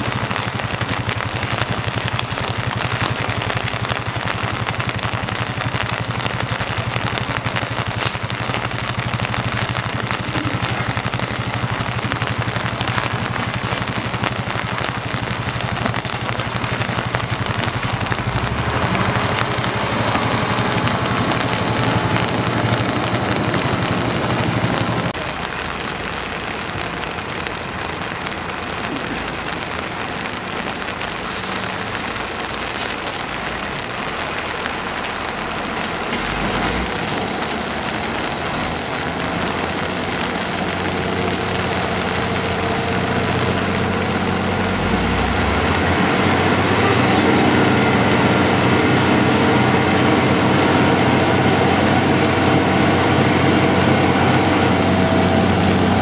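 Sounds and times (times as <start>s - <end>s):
tow truck engines running: 0.0s - 56.0s.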